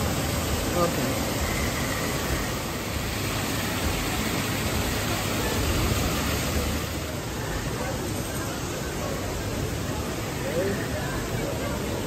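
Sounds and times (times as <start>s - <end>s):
water rushing and splashing: 0.0s - 12.0s.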